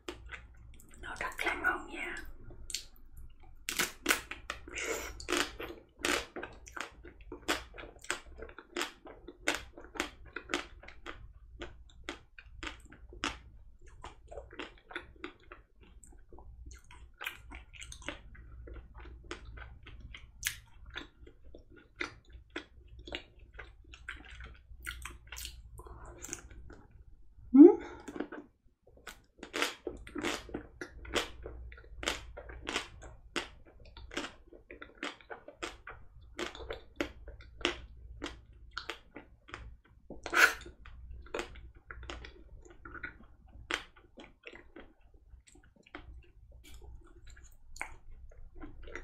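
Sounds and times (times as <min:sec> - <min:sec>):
chewing: 0:00.0 - 0:27.0, 0:28.0 - 0:49.0.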